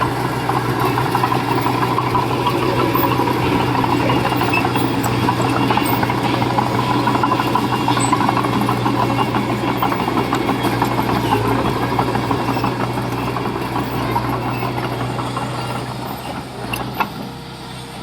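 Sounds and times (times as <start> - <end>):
clanking and rattling: 0.0 - 17.4
heavy diesel engine running: 0.0 - 18.0.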